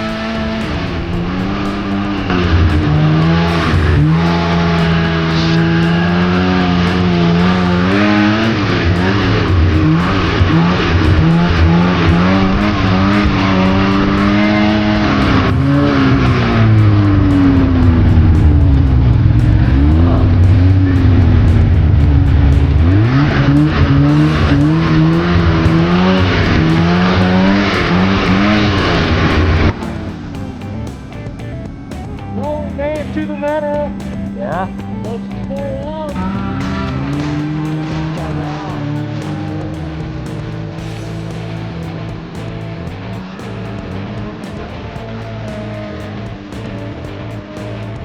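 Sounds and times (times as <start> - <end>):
snowmobile engine revving: 0.0 - 48.0.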